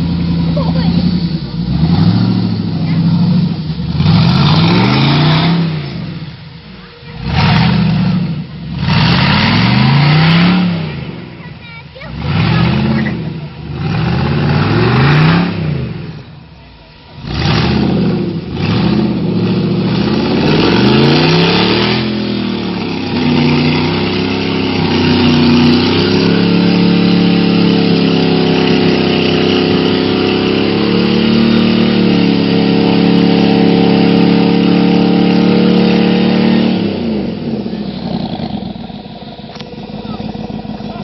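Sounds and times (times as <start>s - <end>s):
engine revving hard: 0.0s - 16.4s, 17.1s - 41.0s.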